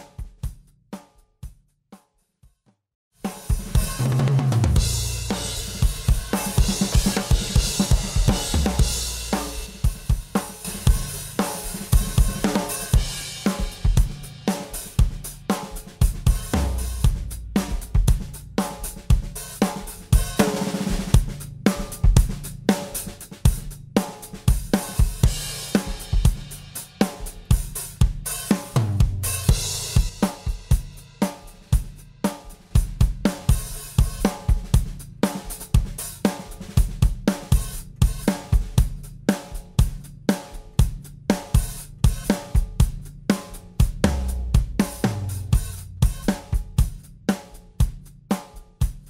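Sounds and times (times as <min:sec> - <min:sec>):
drum kit groove: 0:00.0 - 0:02.1, 0:03.2 - 0:49.0.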